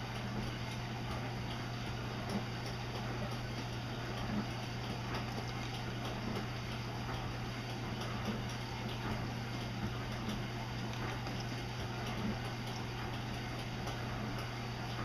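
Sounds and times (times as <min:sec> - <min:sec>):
steady low hum: 0:00.0 - 0:15.0
cat lapping water: 0:00.4 - 0:15.0.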